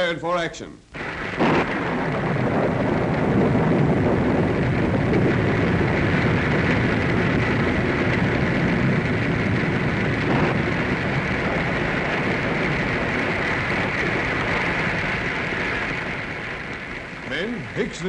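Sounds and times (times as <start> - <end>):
grains pattering like rain: 0.9 - 18.0.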